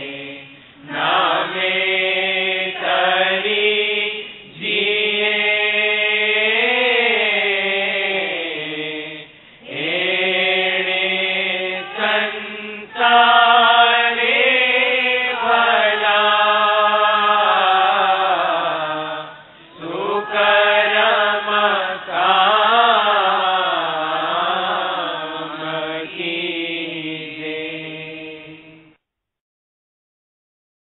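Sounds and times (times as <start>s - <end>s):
person chanting: 0.0s - 29.0s.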